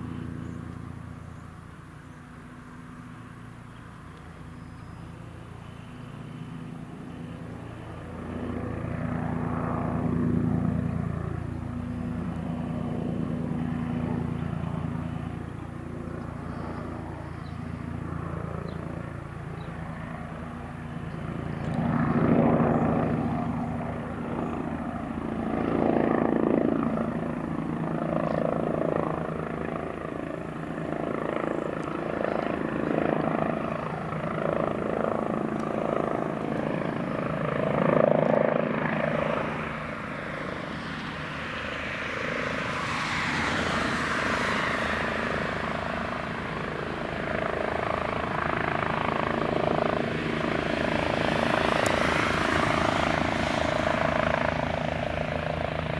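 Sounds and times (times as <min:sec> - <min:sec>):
helicopter rotor and engines: 0:00.0 - 0:55.9.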